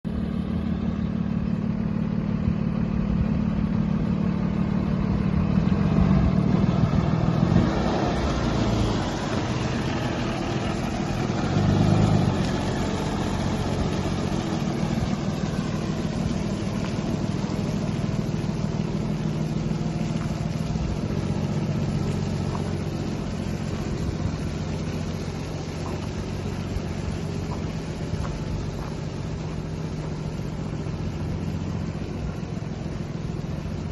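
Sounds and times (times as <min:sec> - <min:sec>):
diesel truck engine running: 0:00.0 - 0:33.9
steady hiss: 0:03.8 - 0:33.9.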